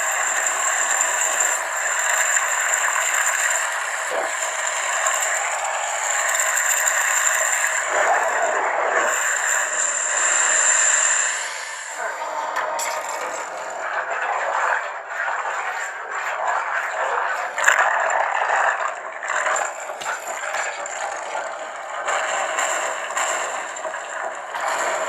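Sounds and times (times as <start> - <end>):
crackling hissing lightsaber hum: 0.0 - 25.0.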